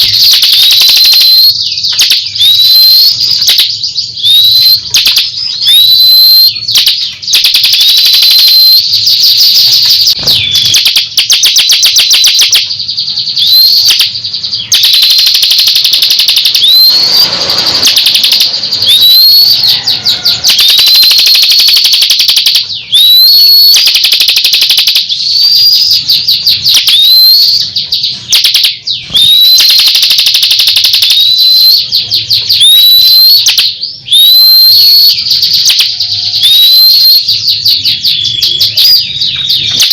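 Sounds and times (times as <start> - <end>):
bird singing buzzy trills: 0.0 - 39.9.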